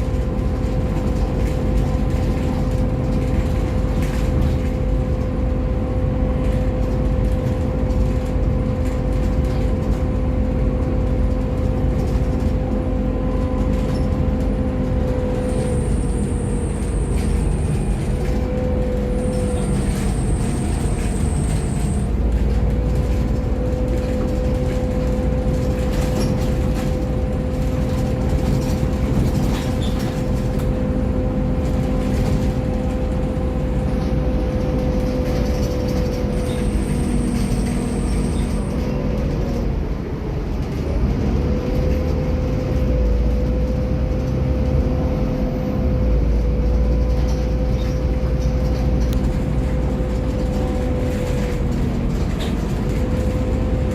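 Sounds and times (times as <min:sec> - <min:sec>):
bus engine rumble with whine: 0:00.0 - 0:53.9.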